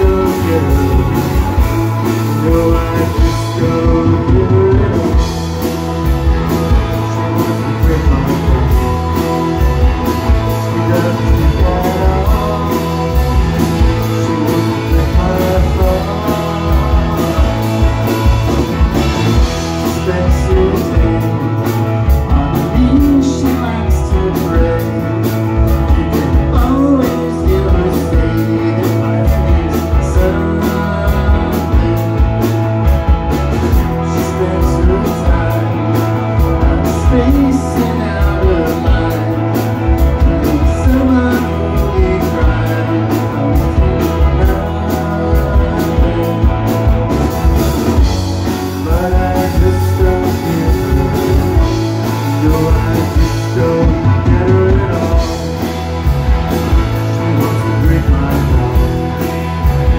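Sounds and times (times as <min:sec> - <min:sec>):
lead vocal singing: 0:00.0 - 0:32.9, 0:33.5 - 0:56.1, 0:56.8 - 0:59.4
drum kit: 0:00.0 - 0:59.9
electric bass: 0:00.0 - 0:59.9
electric guitars: 0:00.0 - 0:59.9.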